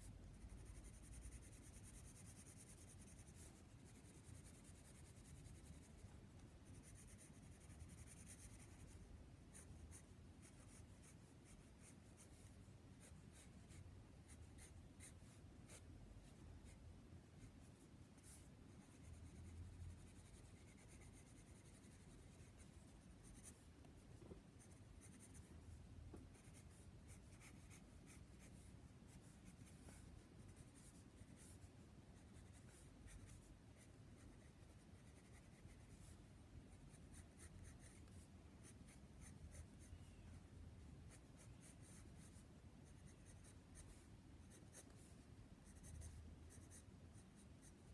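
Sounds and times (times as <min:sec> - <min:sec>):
pencil scratching on paper: 0:00.4 - 0:16.8, 0:17.4 - 0:25.5, 0:26.3 - 0:36.1, 0:36.7 - 0:40.2, 0:41.1 - 0:47.9.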